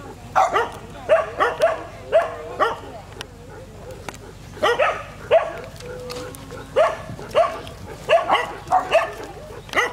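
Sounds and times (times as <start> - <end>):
dogs barking: 0.0 - 9.9.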